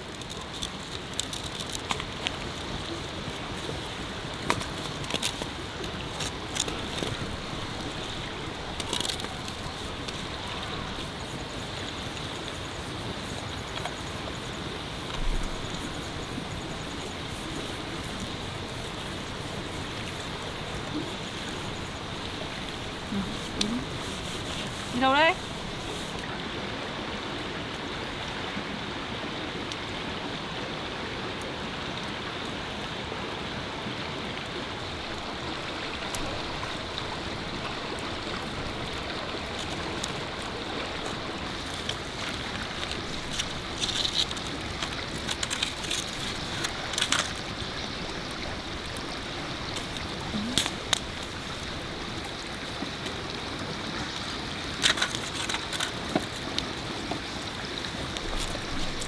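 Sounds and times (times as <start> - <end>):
forest stream flowing: 0.0 - 59.0.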